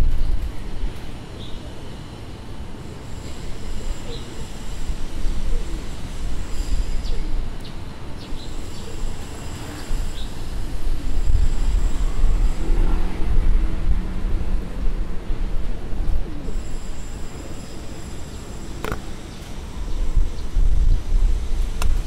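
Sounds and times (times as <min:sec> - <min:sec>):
rumble of passing vehicles: 0:00.0 - 0:22.0.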